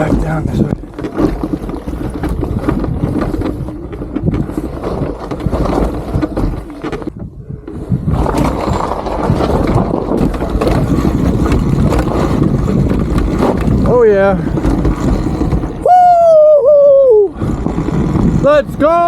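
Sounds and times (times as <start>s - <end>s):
tyres and chassis rattling: 0.0s - 16.6s, 17.3s - 19.0s
dirt bike ride rush: 0.0s - 19.0s.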